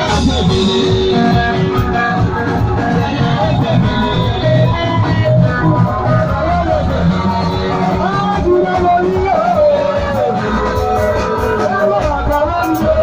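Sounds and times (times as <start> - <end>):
bass guitar: 0.0 - 13.0
electric guitar: 0.0 - 13.0
steady beat: 0.0 - 13.0.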